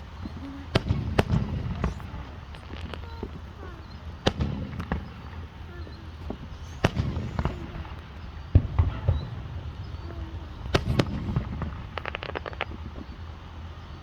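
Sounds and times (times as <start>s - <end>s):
fireworks bangs: 0.0s - 13.4s
fireworks crackling: 0.0s - 13.7s.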